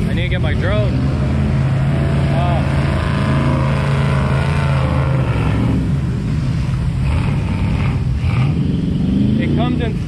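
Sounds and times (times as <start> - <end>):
engine humming: 0.0 - 10.0
outdoor noise: 0.0 - 10.0
rough engine: 0.0 - 10.0.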